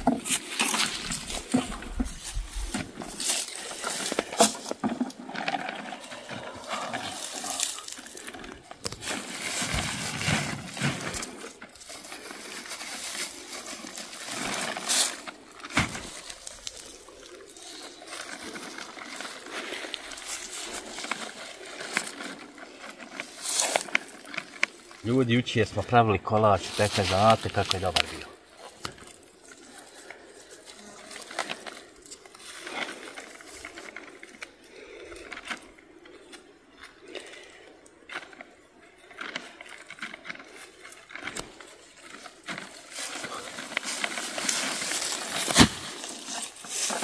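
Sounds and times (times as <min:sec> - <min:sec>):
plastic sack rustling: 0:00.0 - 0:34.2, 0:39.2 - 0:47.0
apples tumbling and knocking: 0:00.0 - 0:47.0.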